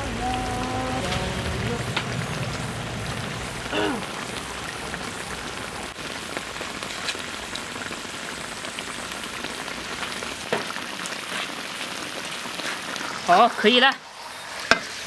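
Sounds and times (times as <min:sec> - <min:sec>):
sauce sizzling and bubbling in wok: 0:00.0 - 0:15.0.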